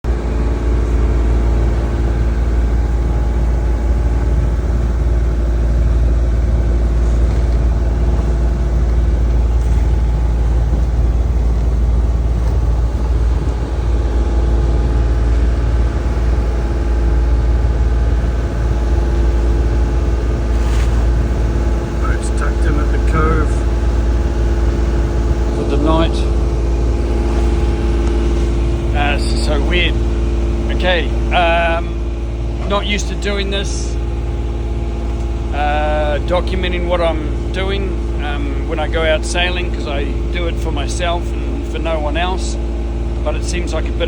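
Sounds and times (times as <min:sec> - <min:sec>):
boat engine running steadily: 0:00.0 - 0:44.0.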